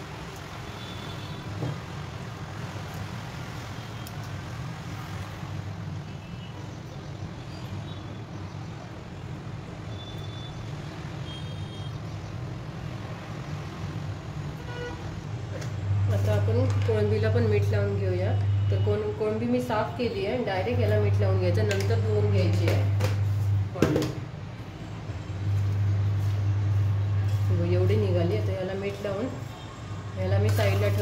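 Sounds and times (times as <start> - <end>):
low mechanical hum: 4.0 - 31.0.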